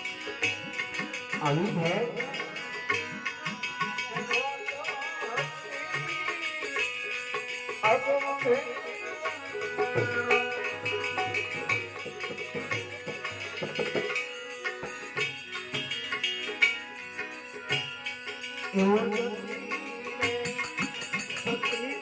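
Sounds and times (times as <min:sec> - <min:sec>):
tabla playing steady rhythm: 0:00.0 - 0:22.0.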